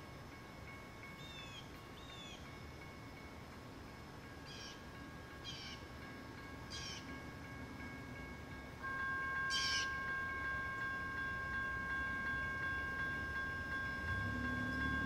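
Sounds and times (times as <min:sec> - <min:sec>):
faint steady high tones: 0:00.0 - 0:15.0.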